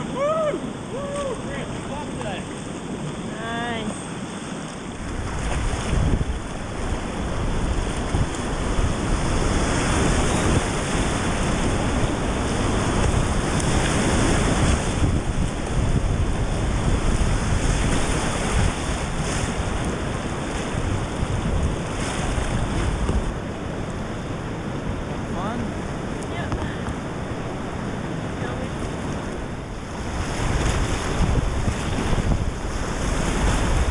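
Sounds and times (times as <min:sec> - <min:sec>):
whitewater rushing: 0:00.0 - 0:33.9.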